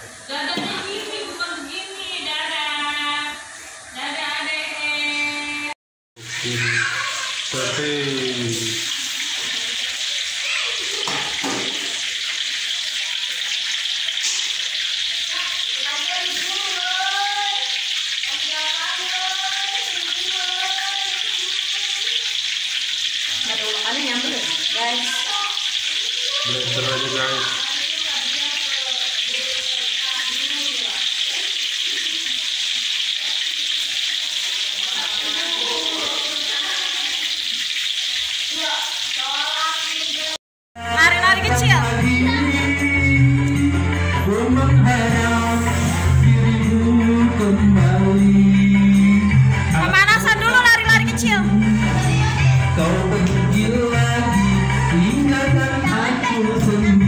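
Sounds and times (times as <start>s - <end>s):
oil sizzling in a wok: 0.0s - 44.2s, 45.0s - 47.0s, 48.1s - 57.0s.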